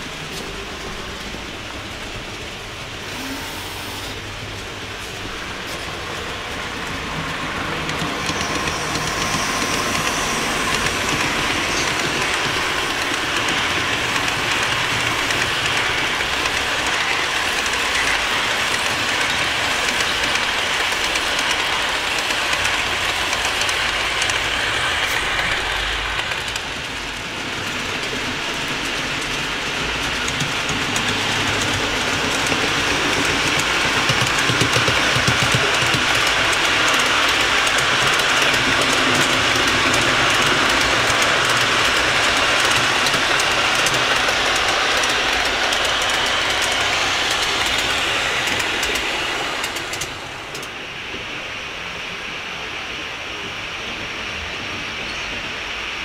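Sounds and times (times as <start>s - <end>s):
model train rolling rumble: 0.0s - 56.0s
wheels clicking over rail joints: 4.1s - 50.8s.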